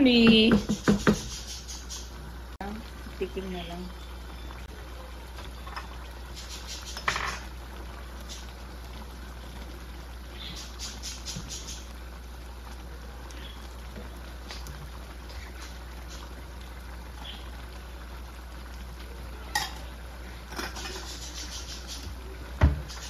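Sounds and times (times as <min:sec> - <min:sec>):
stew simmering and bubbling: 0:00.0 - 0:23.0.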